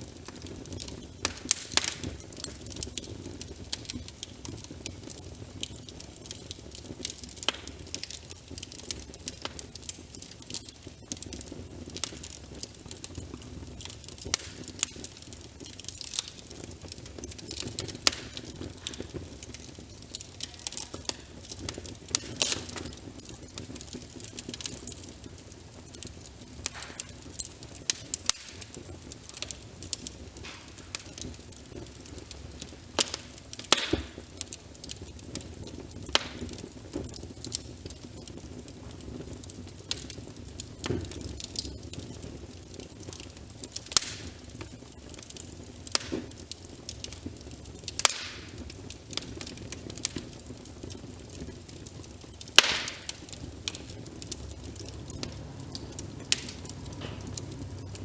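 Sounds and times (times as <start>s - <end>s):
rain pattering: 0.0s - 58.0s
wood fire crackling and popping: 0.0s - 58.0s.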